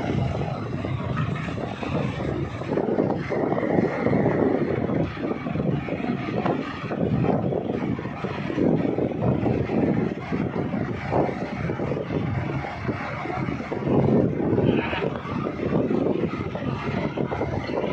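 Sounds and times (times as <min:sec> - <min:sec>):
boat engine rumbling: 0:00.0 - 0:17.9
wind buffeting microphone: 0:00.0 - 0:17.9.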